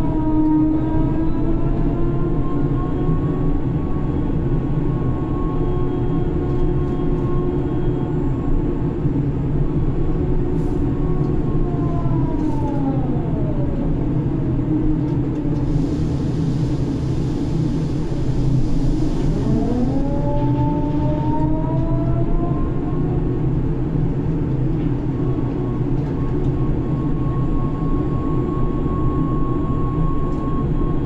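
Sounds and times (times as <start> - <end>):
crane machinery low drone: 0.0 - 31.0
machinery whine gliding down: 0.0 - 31.0.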